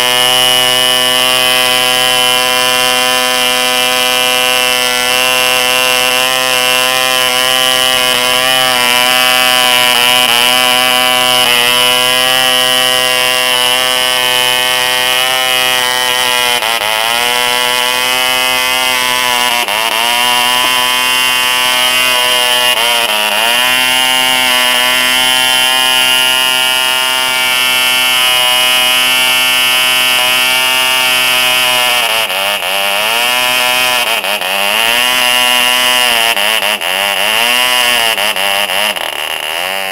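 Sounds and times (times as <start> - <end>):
model engine high-pitched buzz: 0.0 - 39.9.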